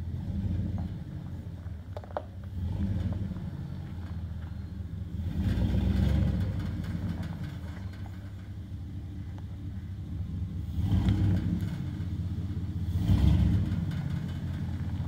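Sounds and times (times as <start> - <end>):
truck engine at low revs: 0.0 - 15.0.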